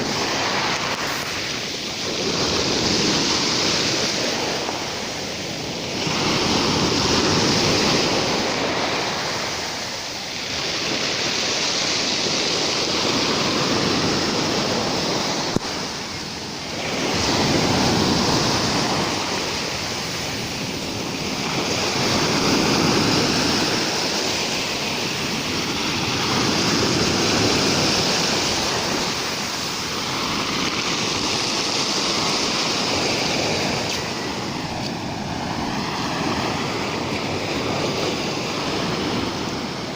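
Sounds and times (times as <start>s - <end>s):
surf breaking on shore: 0.0s - 39.9s.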